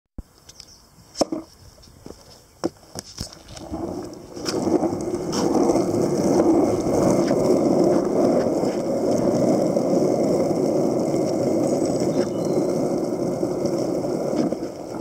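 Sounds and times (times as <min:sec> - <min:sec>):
skateboard wheels rolling on asphalt: 0:00.2 - 0:15.0.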